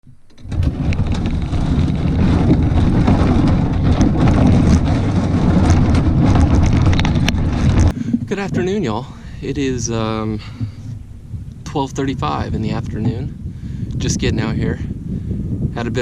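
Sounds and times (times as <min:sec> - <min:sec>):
wind buffeting microphone: 0:00.0 - 0:16.0
faint crackles: 0:00.3 - 0:16.0.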